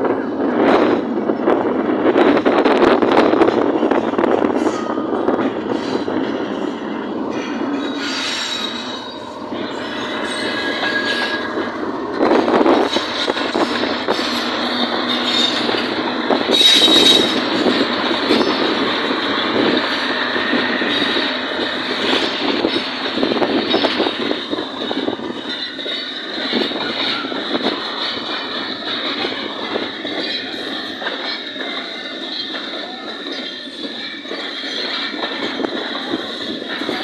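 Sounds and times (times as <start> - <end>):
train wheels rattling over rail joints: 0.0 - 37.0
high wheel squeal: 5.7 - 28.4, 30.0 - 37.0.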